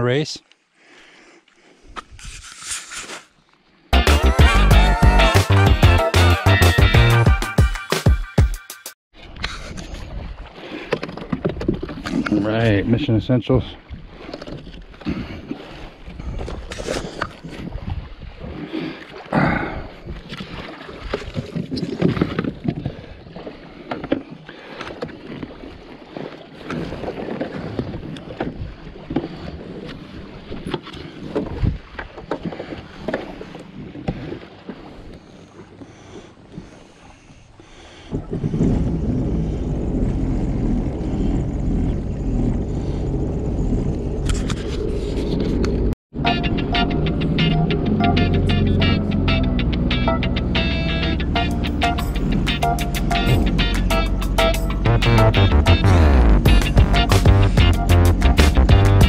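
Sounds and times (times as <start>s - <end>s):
water lapping against hull: 9.2s - 46.0s, 47.0s - 58.2s.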